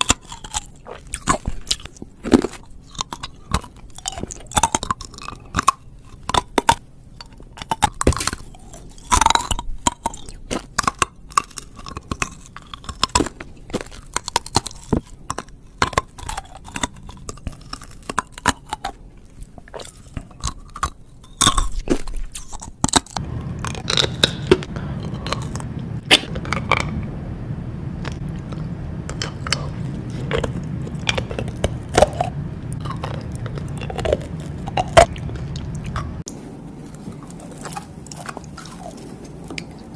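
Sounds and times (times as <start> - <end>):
hard candy crunching: 0.0 - 27.1, 28.0 - 39.9
steady low hum: 0.0 - 39.9.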